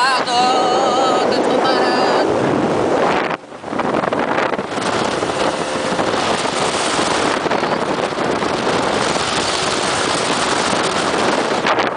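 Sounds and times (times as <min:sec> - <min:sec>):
water rushing: 0:00.0 - 0:11.9
wind on microphone: 0:00.0 - 0:11.9
outboard motor running: 0:01.9 - 0:11.9.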